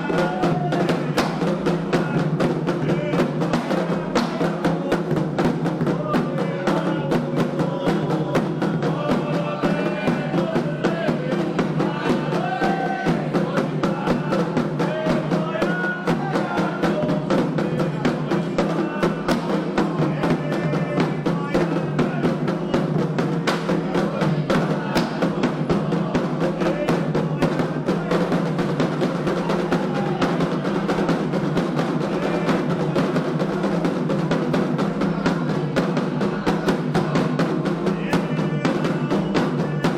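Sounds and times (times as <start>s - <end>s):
hand drums fast rhythm: 0.0s - 39.9s
voices singing: 0.0s - 39.9s.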